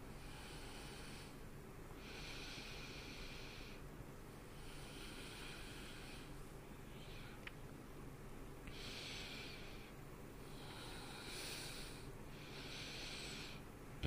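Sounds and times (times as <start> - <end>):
man breathing softly: 0.0 - 7.6, 8.6 - 13.8.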